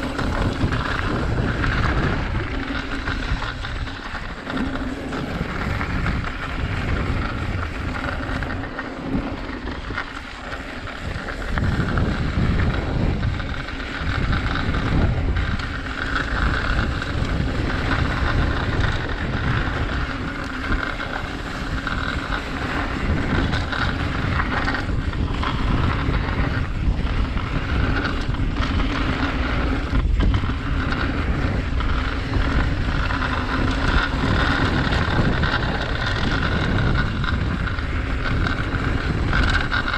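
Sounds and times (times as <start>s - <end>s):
bike clattering over bumps: 0.0s - 39.9s
tyres rolling over dirt trail: 0.0s - 39.9s
wind buffeting microphone: 0.0s - 39.9s.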